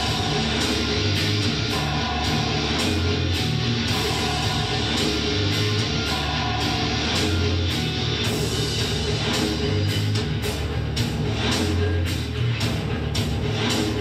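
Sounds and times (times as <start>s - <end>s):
heavy metal music with electric guitar: 0.0s - 14.0s.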